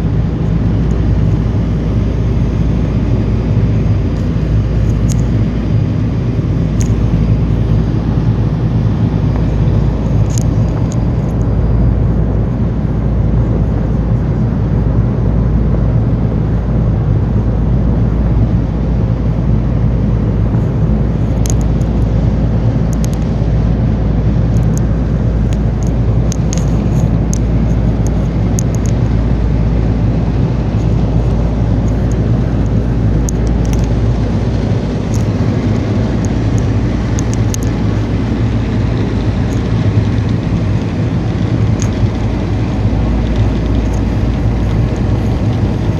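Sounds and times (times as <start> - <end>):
boat engine droning: 0.0 - 45.9
wind on microphone: 0.0 - 45.9.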